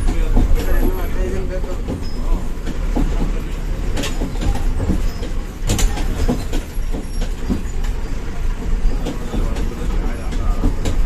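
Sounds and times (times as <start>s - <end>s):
bus body rattling: 0.0s - 11.0s
bus engine and road rumble: 0.0s - 11.0s.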